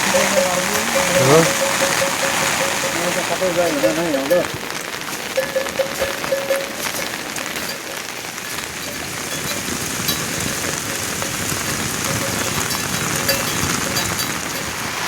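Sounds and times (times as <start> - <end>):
light ticks and crackles: 0.0 - 15.0
steady hiss: 0.0 - 15.0.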